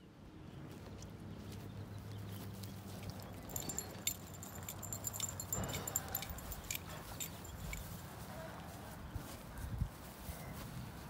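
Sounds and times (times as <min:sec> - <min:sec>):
footsteps on pavement: 0:00.5 - 0:11.0.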